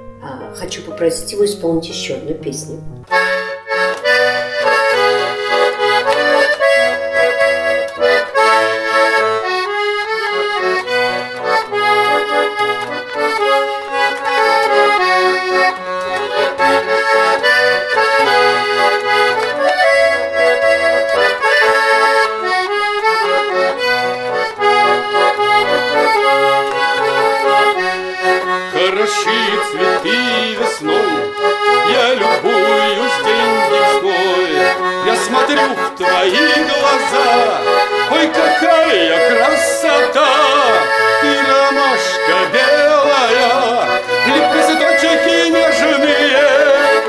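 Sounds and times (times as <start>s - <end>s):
button accordion playing: 3.0s - 47.0s.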